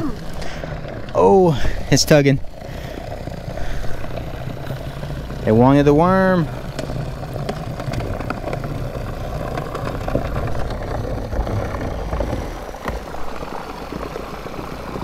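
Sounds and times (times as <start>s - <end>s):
boat motor rumbling: 0.0s - 15.0s.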